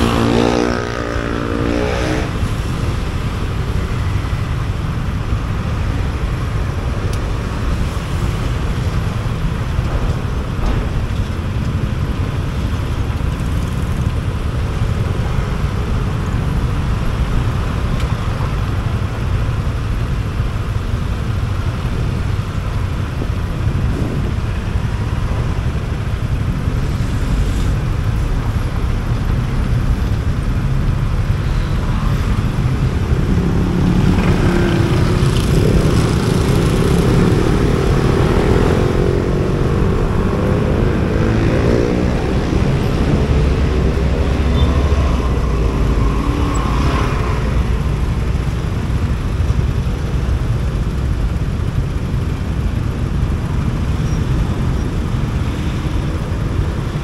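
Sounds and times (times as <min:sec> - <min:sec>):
motorcycle engine and road noise: 0:00.0 - 0:57.0.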